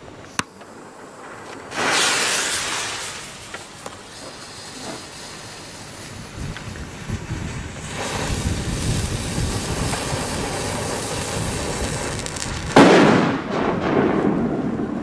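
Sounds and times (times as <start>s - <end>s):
steady hiss: 0.0s - 12.9s
firecracker bang echoing: 1.0s - 15.0s.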